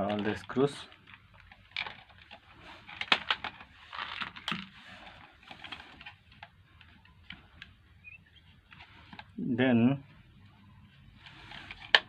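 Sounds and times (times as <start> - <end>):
plastic parts clicking and scraping: 0.0 - 9.4, 11.1 - 12.0.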